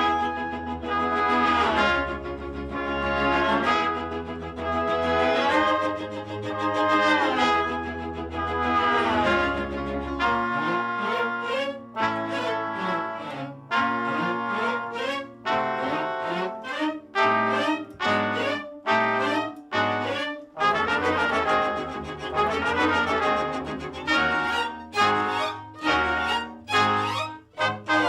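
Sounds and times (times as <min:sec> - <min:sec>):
brass-led background music: 0:00.0 - 0:28.0.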